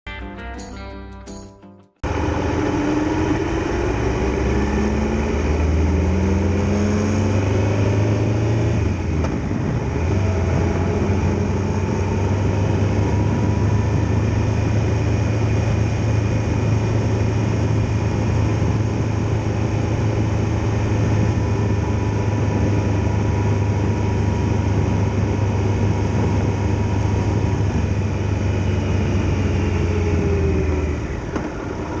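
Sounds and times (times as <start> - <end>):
motorcycle engine accelerating: 2.0 - 32.0.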